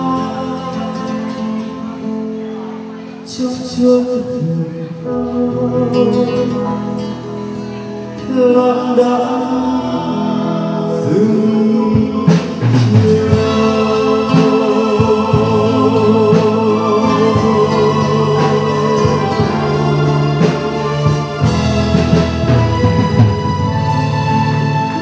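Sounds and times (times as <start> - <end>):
man singing into a microphone: 0.0 - 20.9
live band playing: 0.0 - 25.0.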